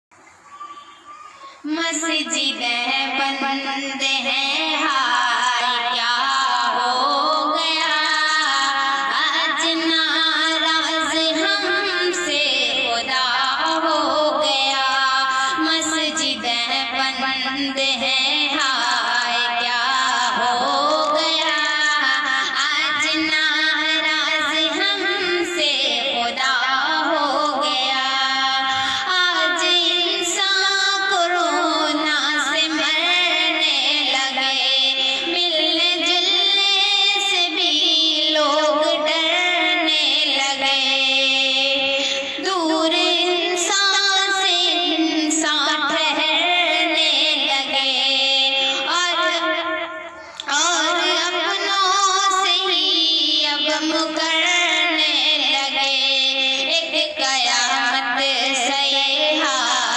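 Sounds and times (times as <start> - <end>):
woman singing devotional song: 0.2 - 59.9.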